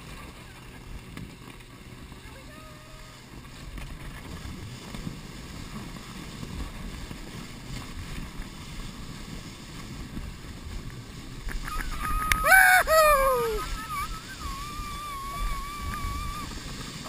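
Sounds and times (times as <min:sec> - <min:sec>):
canoe sliding over snow: 0:00.0 - 0:17.0
wind on microphone: 0:01.8 - 0:17.0.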